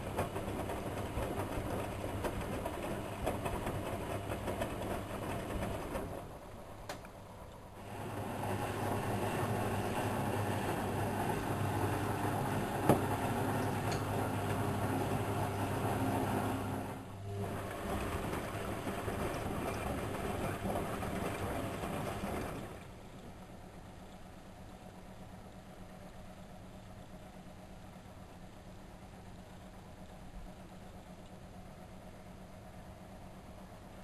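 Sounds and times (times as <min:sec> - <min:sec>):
washing machine drum motor hum: 0:00.0 - 0:34.0.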